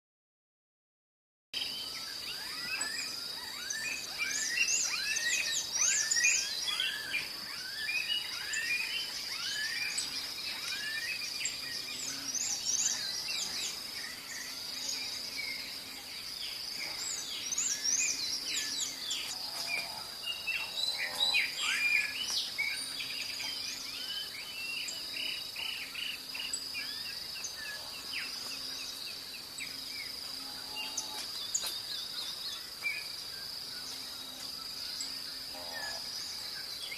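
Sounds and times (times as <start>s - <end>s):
birds chirping and whistling: 1.6s - 36.9s
high insect trill: 1.6s - 36.9s.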